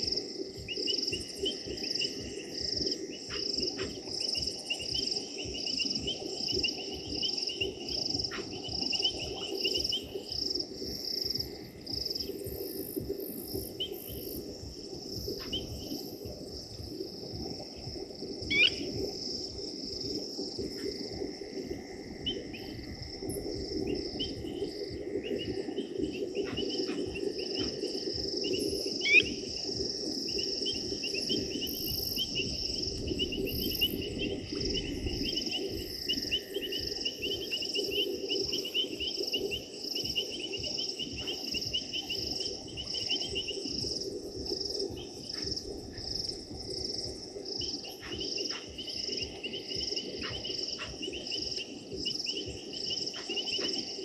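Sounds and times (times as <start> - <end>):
crickets trilling: 0.0 - 54.0
pulsing insect trill: 0.0 - 54.0.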